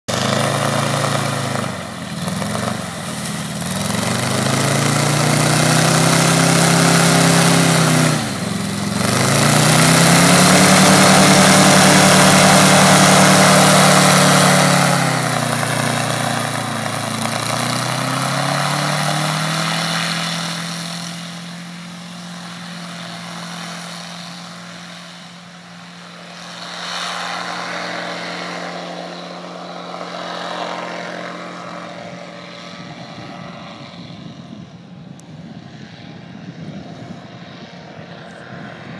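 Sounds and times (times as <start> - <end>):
engine revving: 0.0 - 34.2.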